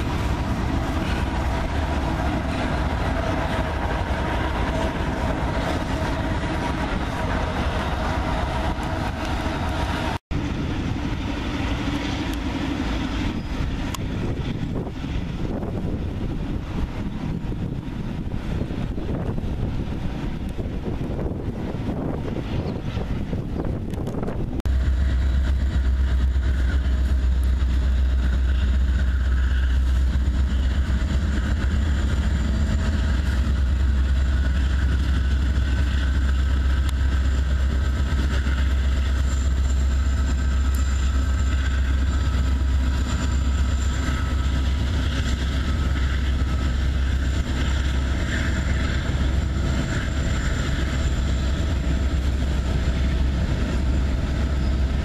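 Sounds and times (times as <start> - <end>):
locomotive engine rumble: 0.0 - 55.0
train moving over bridge: 0.0 - 55.0.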